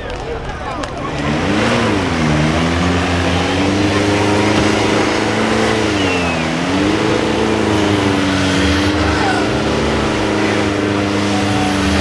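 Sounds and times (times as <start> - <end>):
wheels churning through mud: 0.1 - 12.0
truck engine revving: 0.8 - 12.0.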